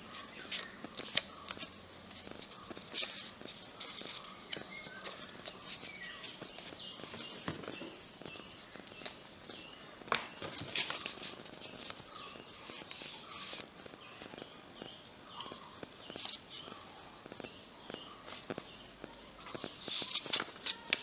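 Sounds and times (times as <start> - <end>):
paper crinkling: 0.0 - 9.2, 10.4 - 21.0.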